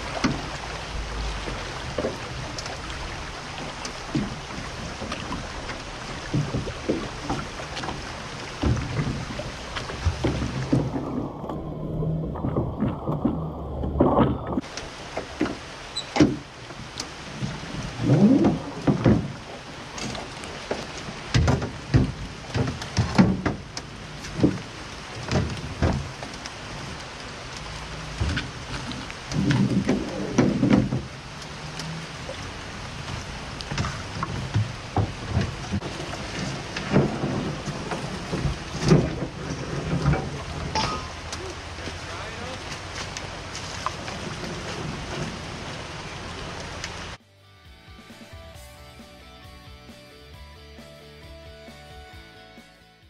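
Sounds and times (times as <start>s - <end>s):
rain pattering on boat: 0.0s - 47.2s.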